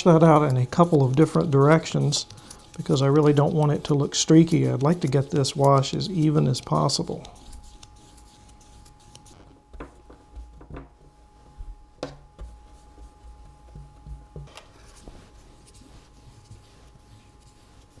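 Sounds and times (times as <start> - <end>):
brush scratching on wet paper: 0.0 - 9.5, 12.5 - 14.1, 14.7 - 18.0.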